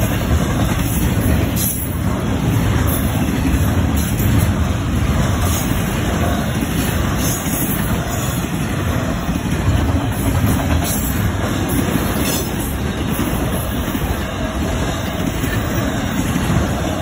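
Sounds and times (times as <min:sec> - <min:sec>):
freight train wheels on rails: 0:00.0 - 0:17.0
train cars clickety-clack: 0:00.0 - 0:17.0.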